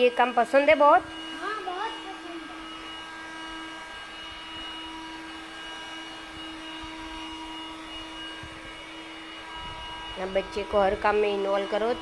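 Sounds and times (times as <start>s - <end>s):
cordless vacuum cleaner running: 0.0s - 12.0s.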